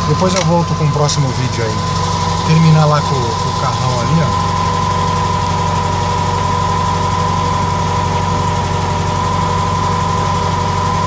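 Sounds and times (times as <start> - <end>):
car engine idling: 0.0 - 11.0
high whine: 0.0 - 11.0.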